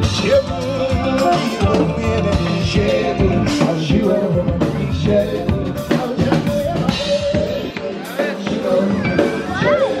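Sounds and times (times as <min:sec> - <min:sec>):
drum kit: 0:00.0 - 0:10.0
electric guitar: 0:00.0 - 0:10.0
keyboard: 0:00.0 - 0:10.0
person singing into a microphone: 0:00.0 - 0:10.0.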